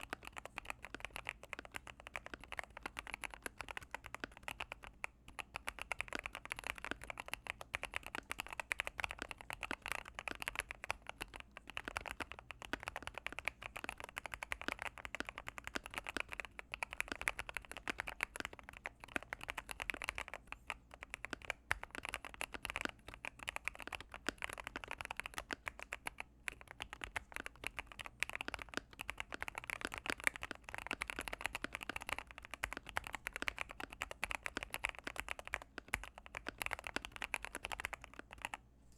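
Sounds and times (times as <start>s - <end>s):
mechanical keyboard typing: 0.0s - 38.6s.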